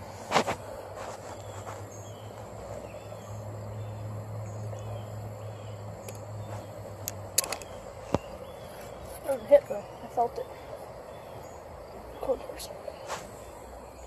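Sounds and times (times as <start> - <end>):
faint bird chirps: 0.9 - 14.0.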